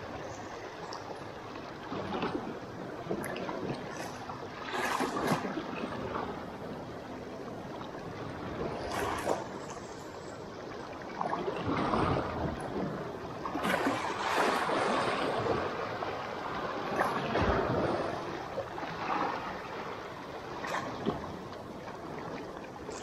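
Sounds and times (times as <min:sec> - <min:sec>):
waves lapping against rocks: 0:00.0 - 0:23.0.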